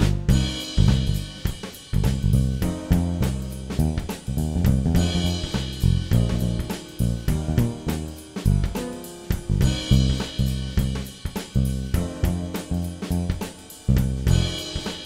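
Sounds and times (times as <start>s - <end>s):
bass guitar: 0.0s - 14.8s
drums: 0.0s - 15.0s.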